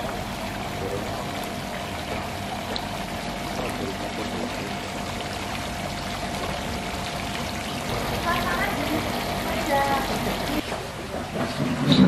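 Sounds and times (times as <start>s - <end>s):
fountain water splashing: 0.0s - 11.3s.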